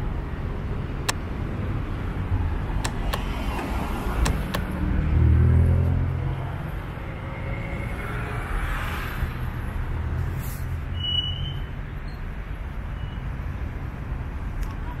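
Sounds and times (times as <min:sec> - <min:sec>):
car traffic rumble: 0:00.0 - 0:15.0.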